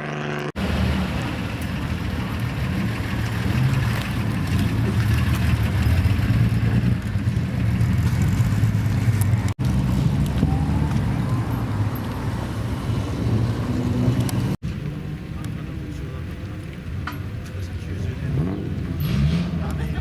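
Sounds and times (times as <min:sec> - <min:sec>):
car engines through loud exhausts: 0:00.0 - 0:20.0.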